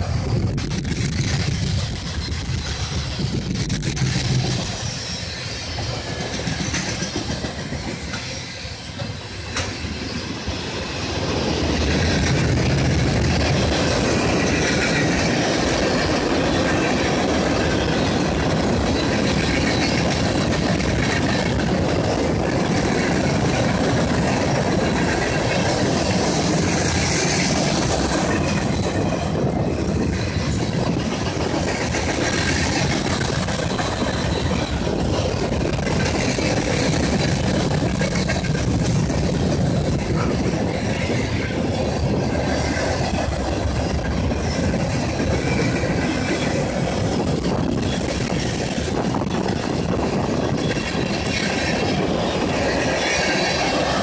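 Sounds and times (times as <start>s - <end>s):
freight train wheels rumbling on track: 0.0s - 54.0s.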